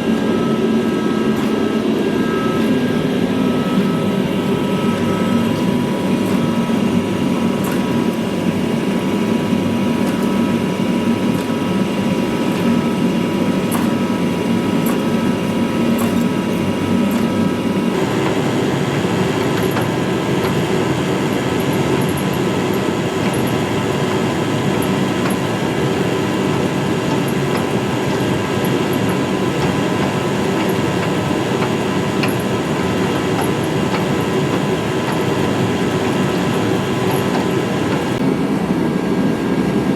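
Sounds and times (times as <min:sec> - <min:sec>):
faint whining tones: 0:00.0 - 0:38.2
workshop machinery roaring: 0:00.0 - 0:39.9.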